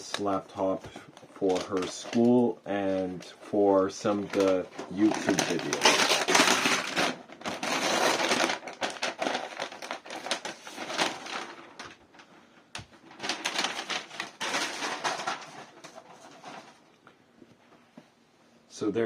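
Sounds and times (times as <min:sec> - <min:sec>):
paper and plastic rustling: 0:00.0 - 0:17.0.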